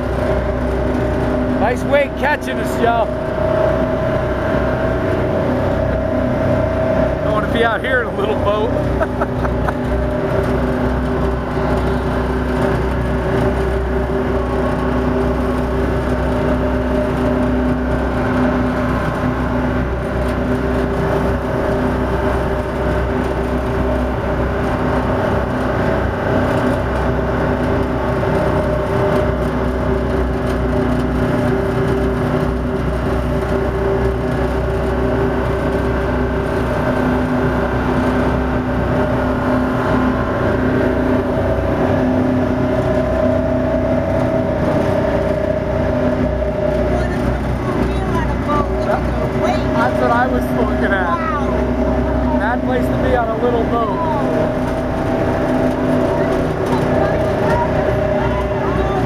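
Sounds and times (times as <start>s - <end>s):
boat diesel engine drone: 0.0s - 59.0s
churning wake rushing: 0.0s - 59.0s.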